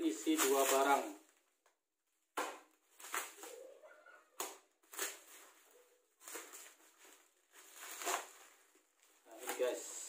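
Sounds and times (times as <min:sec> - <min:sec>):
plastic wrapping rustling: 0:00.0 - 0:01.6, 0:02.5 - 0:03.7, 0:04.4 - 0:10.0.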